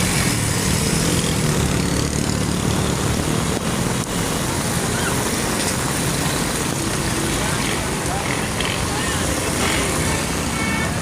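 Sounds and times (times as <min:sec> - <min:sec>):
heavy rain falling: 0:00.0 - 0:11.0
traffic engines running: 0:00.0 - 0:11.0.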